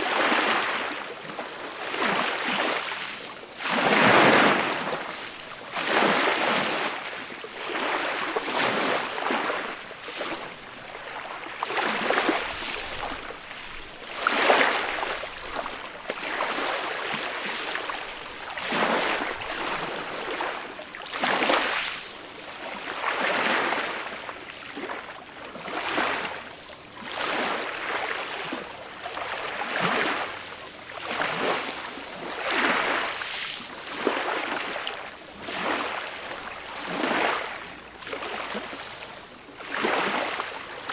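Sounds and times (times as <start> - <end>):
small waves washing up beach: 0.0 - 40.9.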